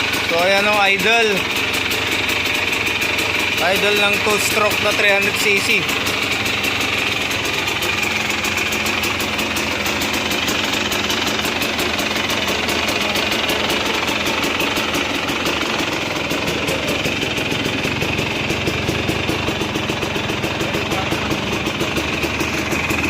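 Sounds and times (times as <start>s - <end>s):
two-stroke motorcycle idling: 0.0s - 23.0s.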